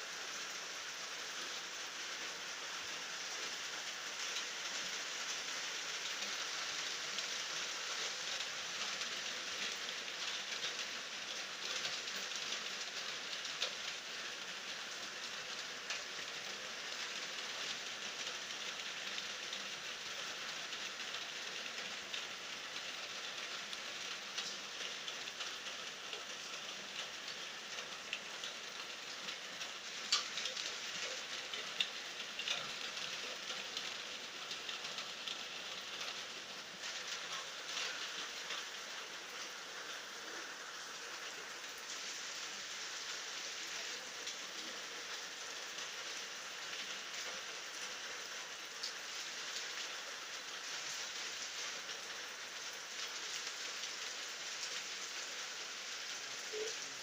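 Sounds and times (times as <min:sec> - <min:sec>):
steady rain hiss: 0:00.0 - 0:57.0
raindrops ticking: 0:03.5 - 0:57.0.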